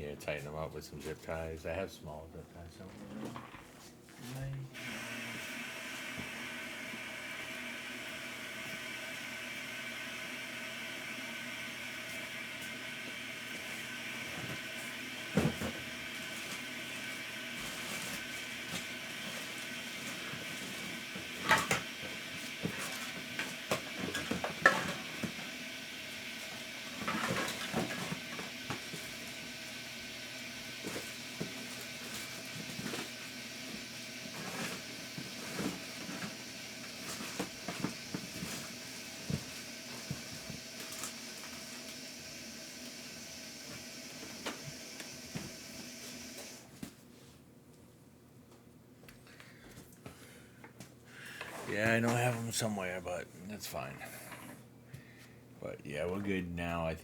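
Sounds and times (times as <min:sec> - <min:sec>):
steady background hum: 0:00.0 - 0:04.8, 0:10.4 - 0:57.0.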